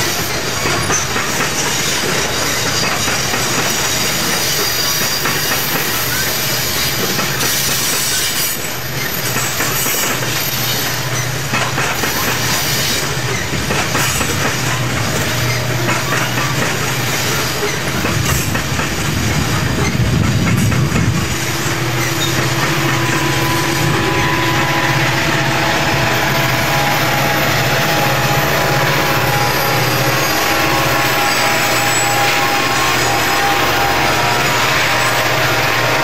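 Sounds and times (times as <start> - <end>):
steel wheels rumbling on rail: 0.0 - 36.0
wheel squeal: 0.0 - 36.0
wheels clacking over rail joints: 0.0 - 36.0
steady squealing tones: 0.1 - 36.0.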